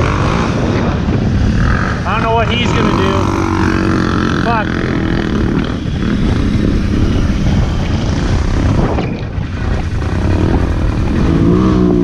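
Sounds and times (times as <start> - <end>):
atv engine rumbling: 0.0 - 12.0.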